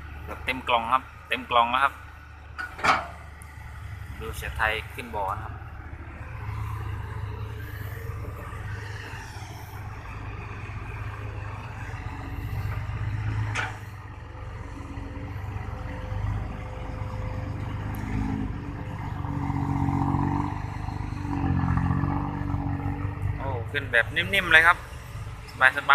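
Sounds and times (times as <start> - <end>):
dump truck diesel engine under load: 0.0 - 25.9.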